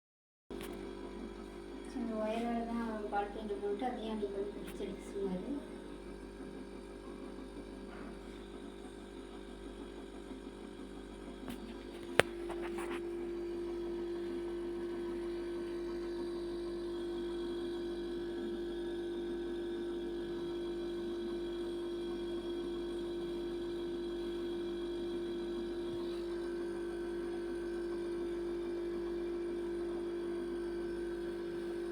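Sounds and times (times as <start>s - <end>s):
refrigerator compressor humming: 0.6s - 31.9s.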